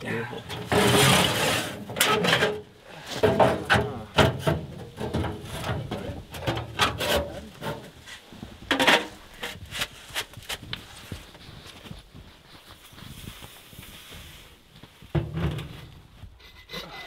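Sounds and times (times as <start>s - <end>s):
camping gear knocking and scraping: 0.4s - 17.0s.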